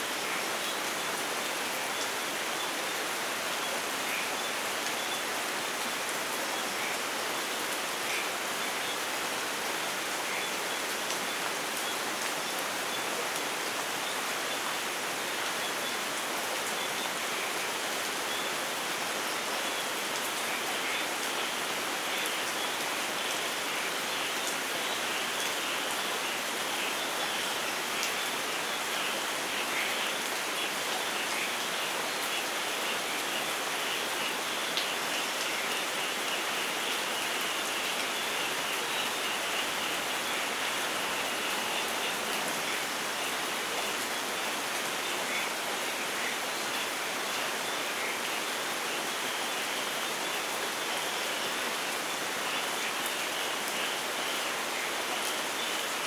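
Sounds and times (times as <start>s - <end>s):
rain on foliage: 0.0s - 56.0s.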